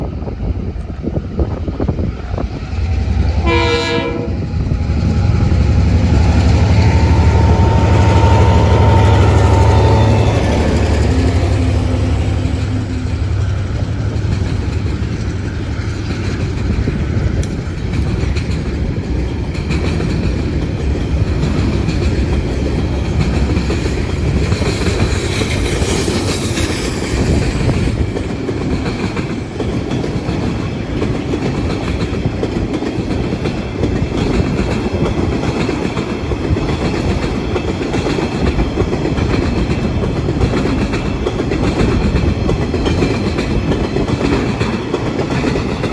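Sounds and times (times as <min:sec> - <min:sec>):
freight train rolling past: 0:00.0 - 0:45.9
wheels clicking over rail joints: 0:09.0 - 0:45.9.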